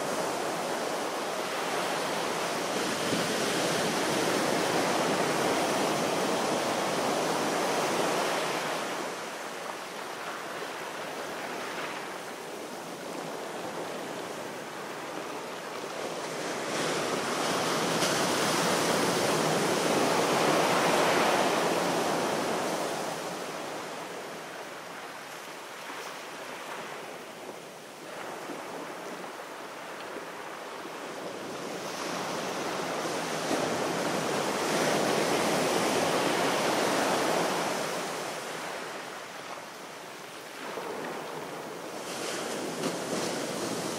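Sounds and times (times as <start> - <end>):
sea waves washing onto shore: 0.0 - 43.9.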